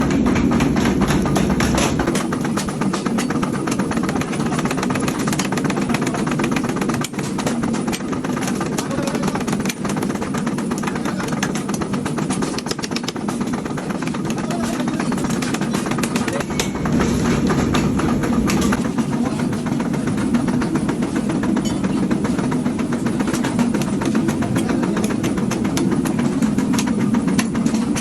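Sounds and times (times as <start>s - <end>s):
machinery knocking over a hum: 0.0s - 28.0s.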